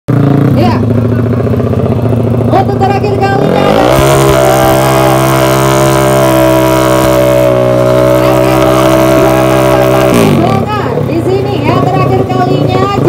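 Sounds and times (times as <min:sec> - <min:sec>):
motorcycle engine revving high: 0:00.1 - 0:13.0.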